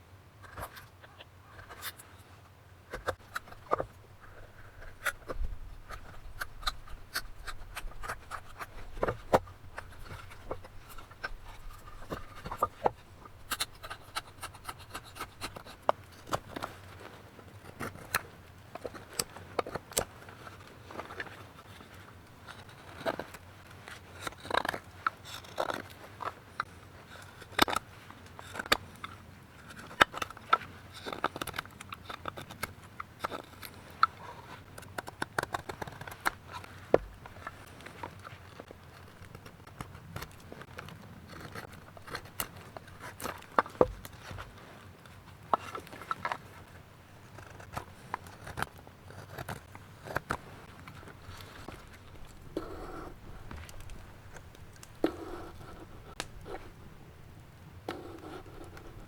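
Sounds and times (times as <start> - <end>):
knife carving wood: 0.4 - 2.2, 2.9 - 59.0.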